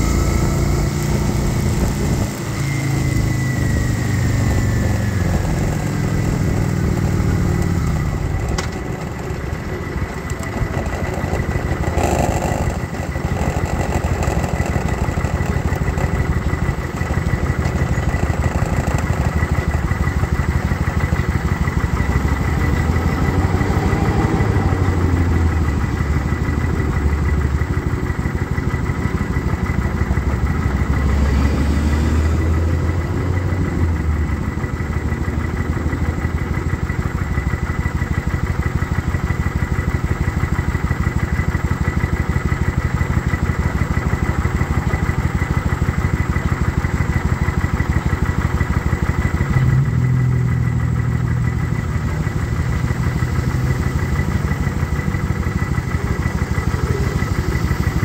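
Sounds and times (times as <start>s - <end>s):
motorcycle engine running and idling: 0.0s - 58.0s.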